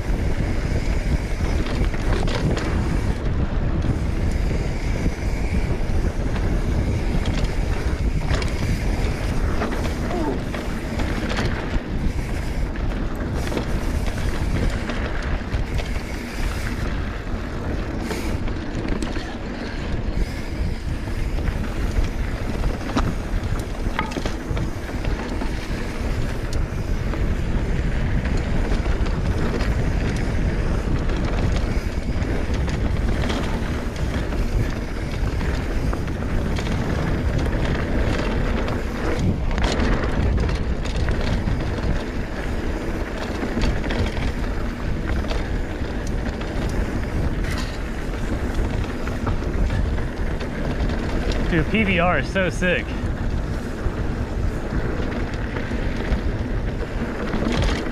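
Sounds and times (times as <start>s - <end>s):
bike clicks and rattles: 0.0s - 57.9s
mountain bike rolling on dirt: 0.0s - 57.9s
wind buffeting microphone: 0.0s - 57.9s.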